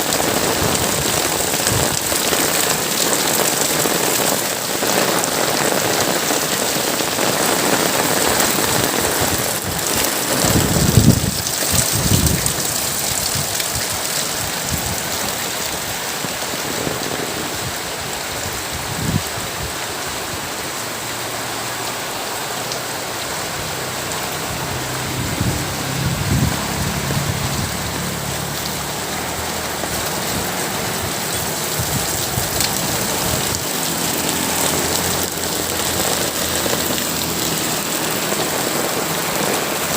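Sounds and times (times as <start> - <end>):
heavy rain pouring: 0.0 - 39.9
low rumbling wind: 7.2 - 39.9.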